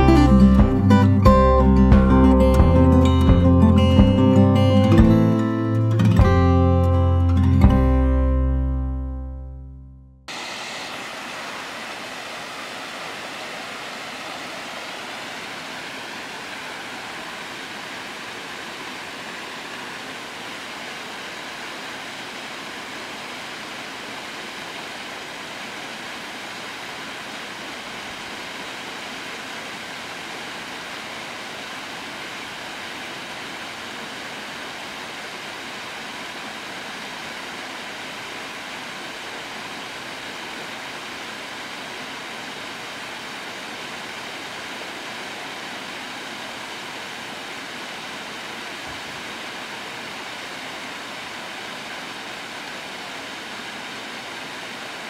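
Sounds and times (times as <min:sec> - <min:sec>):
waterfall splashing into pool: 0:10.3 - 0:55.0.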